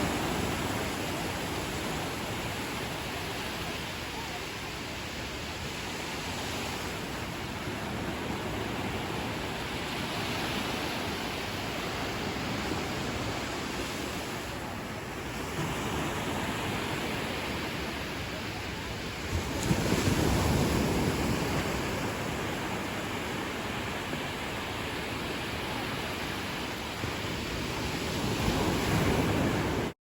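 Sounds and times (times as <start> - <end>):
ocean surf washing onto beach: 0.0 - 30.0.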